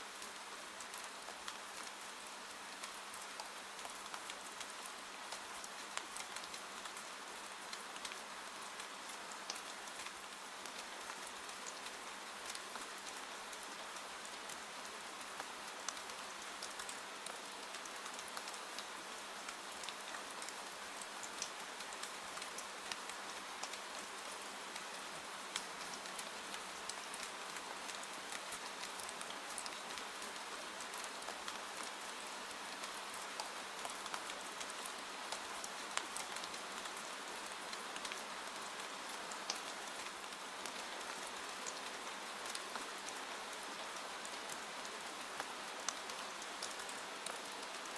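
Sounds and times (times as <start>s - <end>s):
rain on a window: 0.0s - 47.9s.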